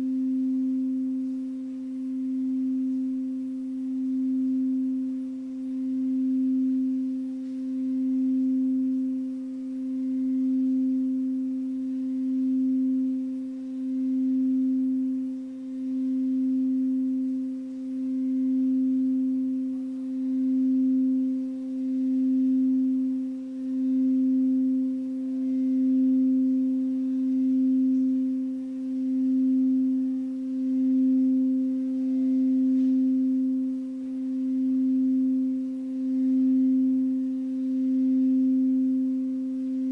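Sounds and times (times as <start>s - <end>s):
singing bowl tone: 0.0s - 39.9s.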